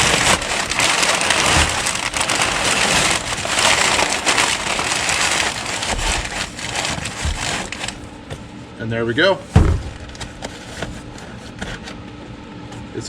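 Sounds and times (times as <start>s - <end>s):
paper crinkling and rustling: 0.0s - 8.2s, 9.6s - 12.0s.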